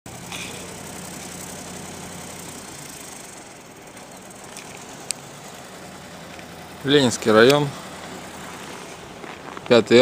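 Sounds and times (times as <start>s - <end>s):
engine idling hum: 0.1s - 10.0s.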